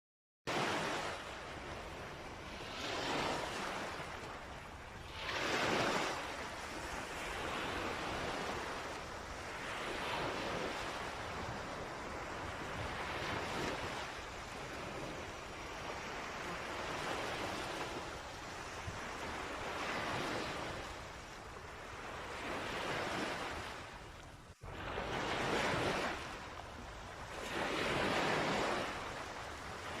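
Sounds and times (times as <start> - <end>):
sea waves washing onto beach: 0.5 - 30.0.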